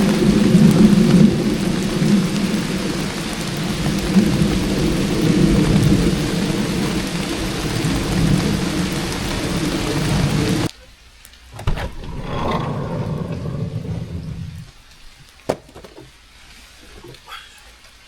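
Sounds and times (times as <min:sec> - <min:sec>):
heavy rain on metal roof: 0:00.0 - 0:18.0.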